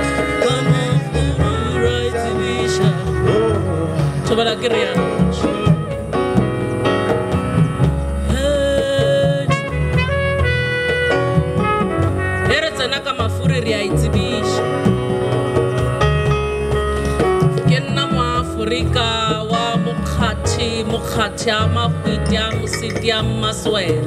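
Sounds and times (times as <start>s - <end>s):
jazz band playing: 0.0s - 24.0s
upright double bass: 0.0s - 24.0s.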